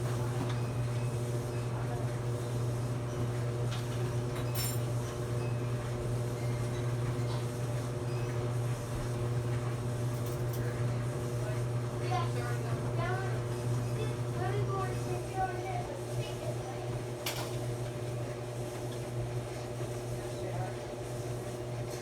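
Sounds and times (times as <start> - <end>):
clothes dryer humming: 0.0 - 22.0.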